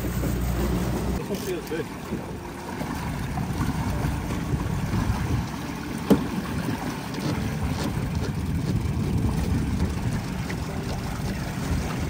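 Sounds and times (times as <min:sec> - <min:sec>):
outboard motor rumble: 0:00.0 - 0:12.0
water rushing past hull: 0:00.0 - 0:12.0
wind on microphone: 0:02.1 - 0:12.0.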